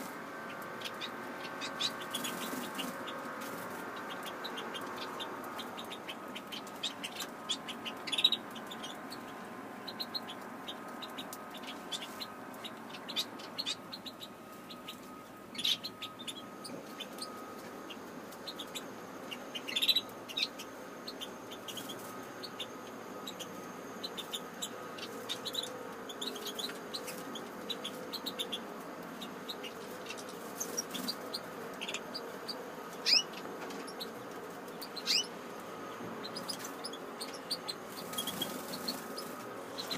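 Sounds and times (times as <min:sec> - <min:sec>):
birds chirping: 0:00.0 - 0:39.9
faint steady hum: 0:00.0 - 0:39.9.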